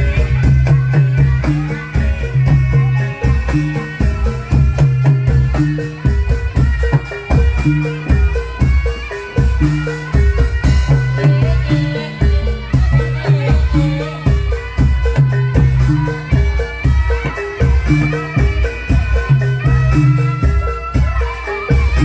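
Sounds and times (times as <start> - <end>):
rhythmic drum strokes: 0.0 - 22.0
short pitched percussion notes: 0.0 - 22.0.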